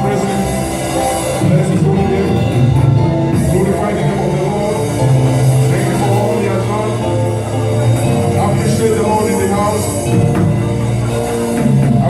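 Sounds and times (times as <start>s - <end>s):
live worship band music: 0.0s - 12.0s.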